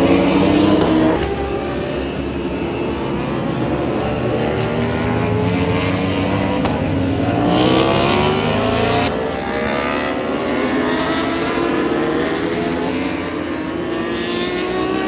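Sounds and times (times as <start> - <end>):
racing motorbike engines accelerating: 0.0 - 15.0.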